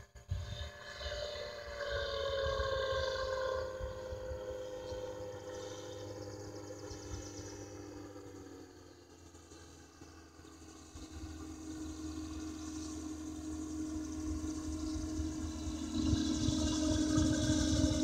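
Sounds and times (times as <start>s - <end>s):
wind rumble on microphone: 0.0s - 7.9s, 11.0s - 18.0s
rotorcraft engine drone overhead: 0.0s - 18.0s.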